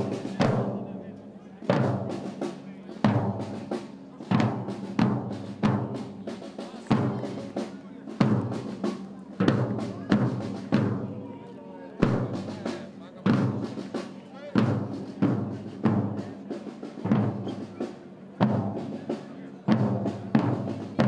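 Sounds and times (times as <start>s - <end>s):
bass drum and snare march: 0.0s - 11.3s, 12.0s - 21.0s.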